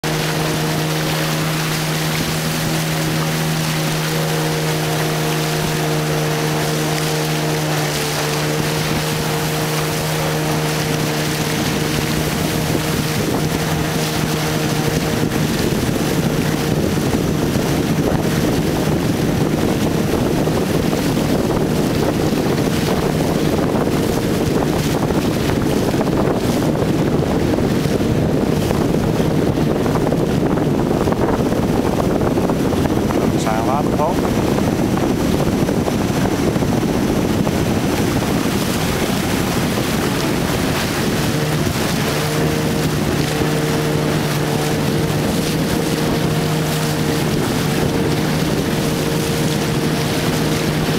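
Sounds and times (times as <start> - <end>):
outboard motor running: 0.0 - 50.9
river water rushing: 0.0 - 50.9
wind on microphone: 0.0 - 50.9.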